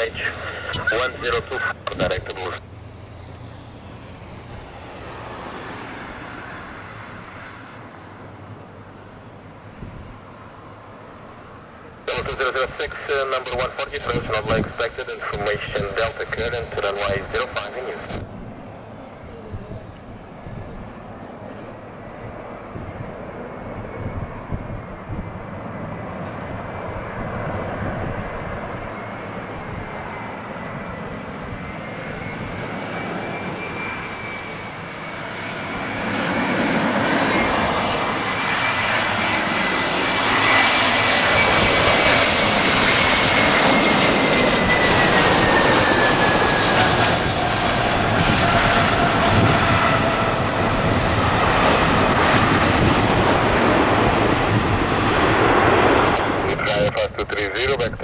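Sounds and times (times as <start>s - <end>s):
jet airliner engine noise: 0.0s - 58.0s
jet engine whine falling in pitch: 0.0s - 58.0s.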